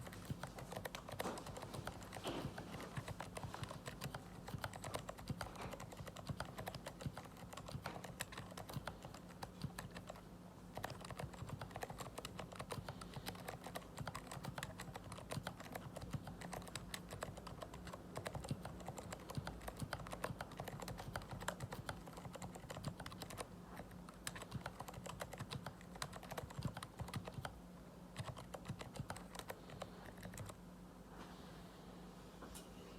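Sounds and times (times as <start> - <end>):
soft muffled keyboard keystrokes: 0.0 - 30.7.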